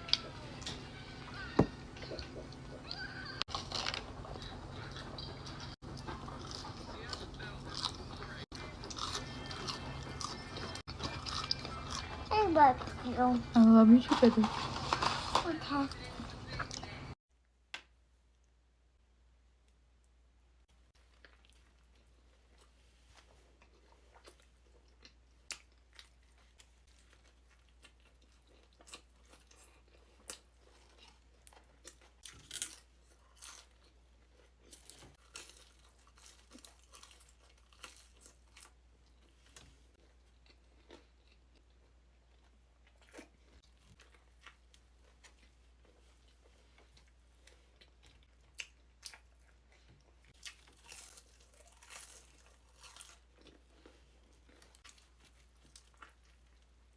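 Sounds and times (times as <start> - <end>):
person chewing and crunching: 0.0 - 17.2, 21.0 - 56.9.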